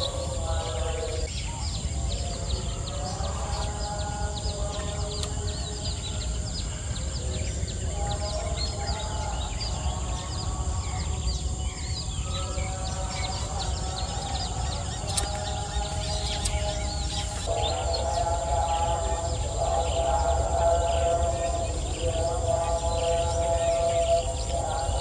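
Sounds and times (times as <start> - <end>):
birds chirping: 0.0 - 25.0
high insect drone: 0.0 - 25.0.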